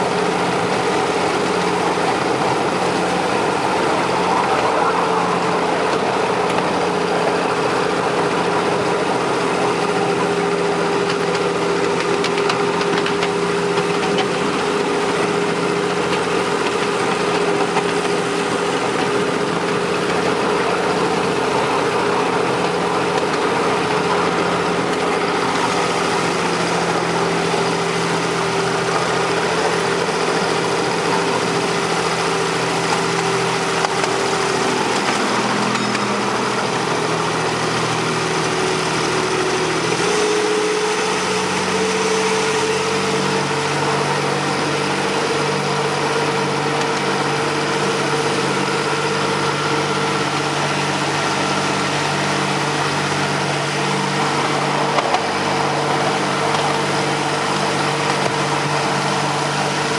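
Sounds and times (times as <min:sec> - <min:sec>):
diesel locomotive engine drone: 0:00.0 - 0:59.9
wheels rolling on track: 0:00.0 - 0:59.9.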